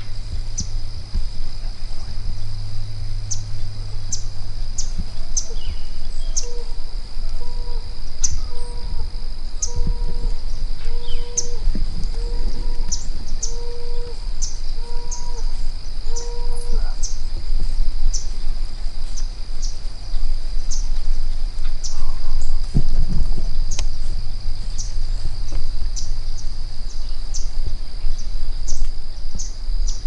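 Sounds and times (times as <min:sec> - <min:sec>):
insect chirps: 0:00.0 - 0:30.0
insects whining: 0:00.0 - 0:30.0
low rumble: 0:00.0 - 0:30.0.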